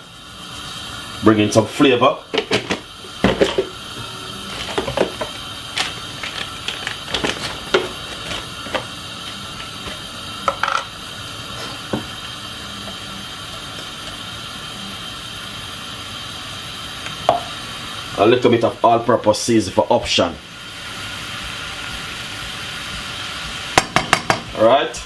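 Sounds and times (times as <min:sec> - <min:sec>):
vegetables sizzling in a frying pan: 0:00.0 - 0:25.0.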